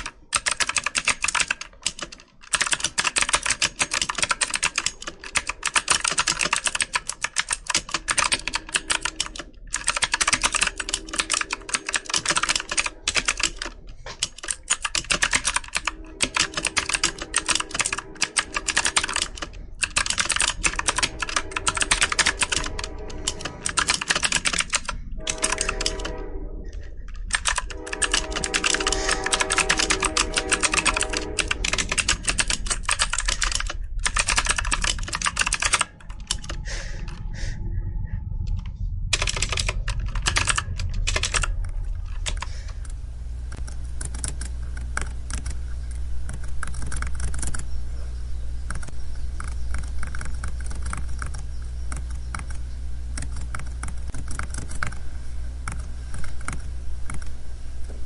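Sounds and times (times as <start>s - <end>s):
rapid typing on keyboard: 0.0s - 26.1s, 27.0s - 37.3s, 38.4s - 47.7s, 48.6s - 55.0s, 55.6s - 57.3s
low steady rumble: 4.4s - 58.0s.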